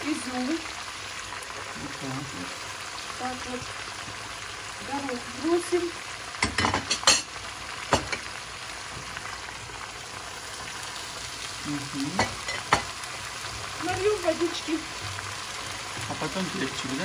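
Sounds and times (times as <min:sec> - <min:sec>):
meat and vegetables sizzling in oil: 0:00.0 - 0:17.0.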